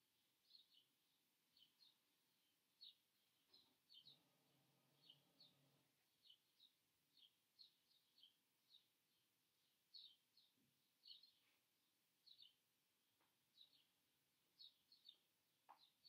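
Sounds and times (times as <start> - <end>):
faint high bird chirps: 0.0 - 16.0.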